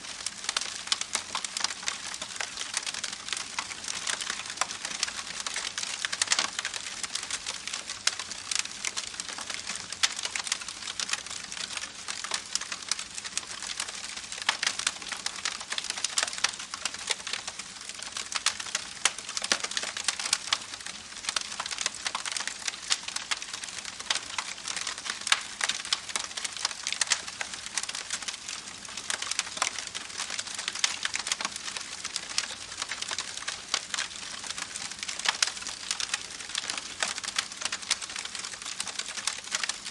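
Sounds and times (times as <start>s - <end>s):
campfire crackling: 0.2s - 39.9s.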